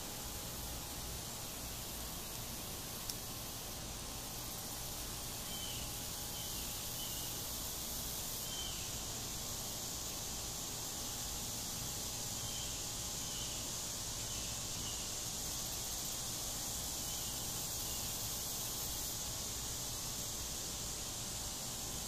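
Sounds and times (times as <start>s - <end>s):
high-pitched outdoor hiss: 0.0s - 22.0s.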